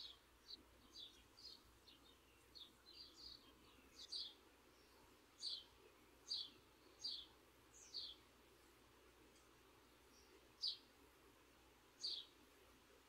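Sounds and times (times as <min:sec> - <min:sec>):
bird chirping: 0:00.0 - 0:11.0, 0:11.9 - 0:12.6.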